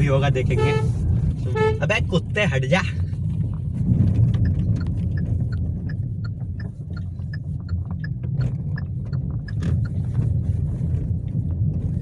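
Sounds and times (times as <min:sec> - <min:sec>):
car engine and road rumble: 0:00.0 - 0:12.0
turn indicator ticking: 0:00.0 - 0:12.0.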